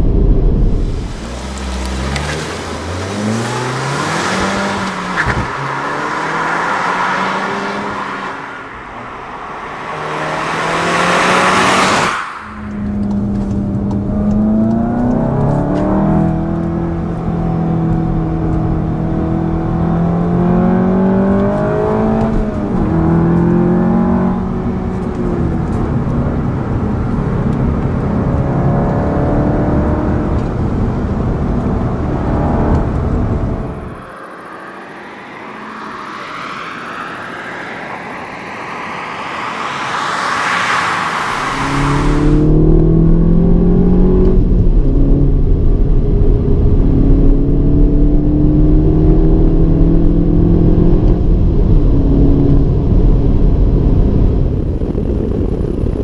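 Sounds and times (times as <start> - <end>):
car engine accelerating: 0.0 - 56.0
car passing with loud rush: 0.0 - 56.0.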